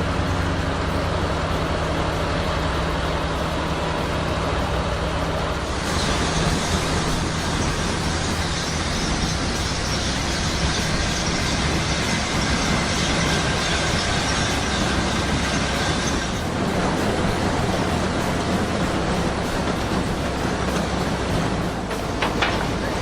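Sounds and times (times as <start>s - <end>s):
harvesting machinery engine drone: 0.0s - 23.0s.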